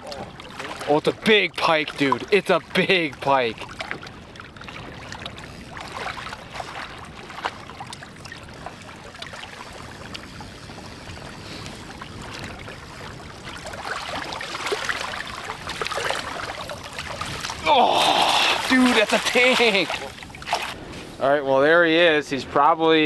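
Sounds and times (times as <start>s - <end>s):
water lapping and splashing: 0.0s - 21.2s.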